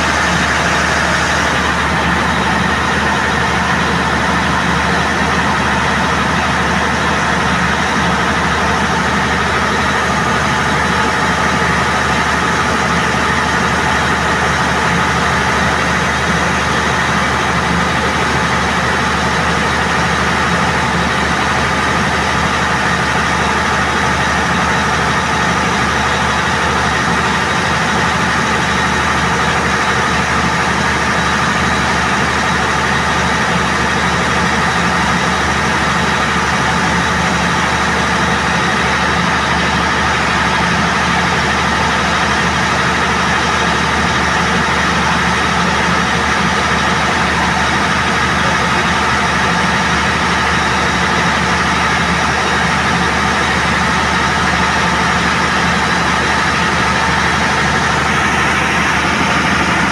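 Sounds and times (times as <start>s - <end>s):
diesel generator engine drone: 0.0s - 59.9s.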